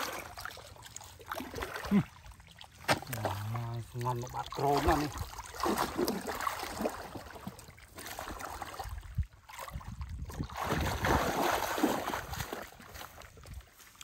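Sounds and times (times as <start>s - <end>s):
mud sloshing and squelching: 0.0s - 14.0s
water splashes: 0.0s - 14.0s.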